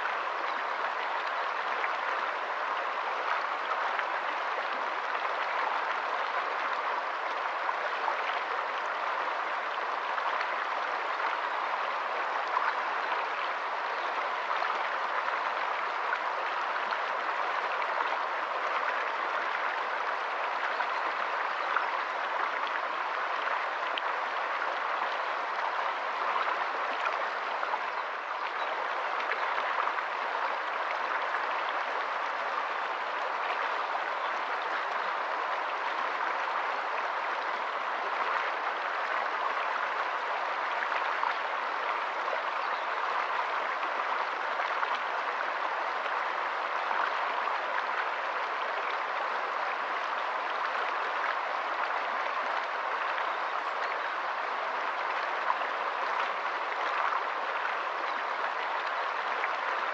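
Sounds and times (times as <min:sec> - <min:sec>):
stream running over stones: 0:00.0 - 0:59.9.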